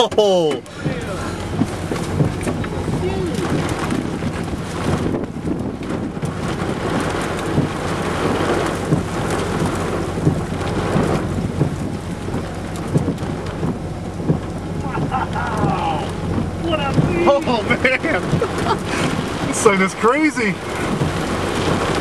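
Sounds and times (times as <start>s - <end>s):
rain and wind on vehicle: 0.0s - 22.0s
raindrops striking glass: 0.0s - 22.0s.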